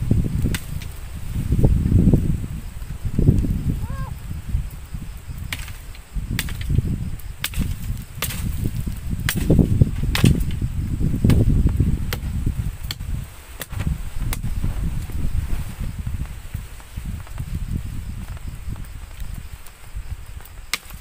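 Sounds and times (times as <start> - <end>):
campfire crackling: 0.0 - 21.0
fire popping: 0.0 - 21.0
low fire rumble: 0.0 - 21.0.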